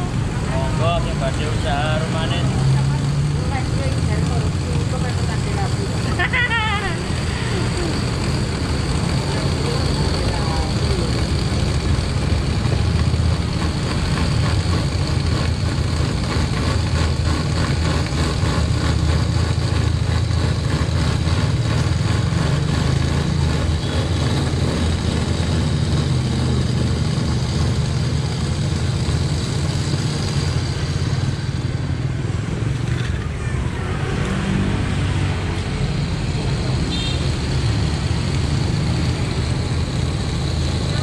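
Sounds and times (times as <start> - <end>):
cotton candy machine humming: 0.0 - 34.4.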